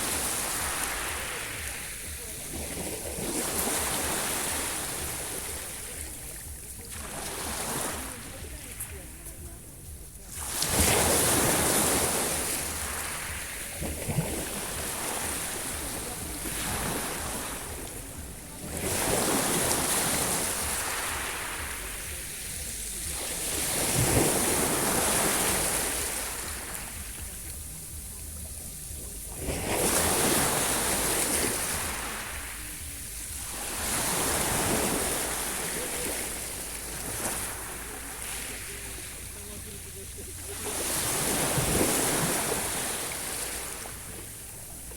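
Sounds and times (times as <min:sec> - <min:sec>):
waves breaking: 0:00.0 - 0:44.9.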